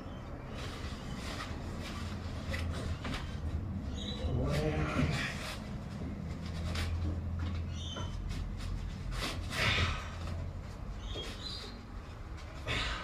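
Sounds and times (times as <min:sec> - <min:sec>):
rustles and light scrapes: 0:00.2 - 0:12.9.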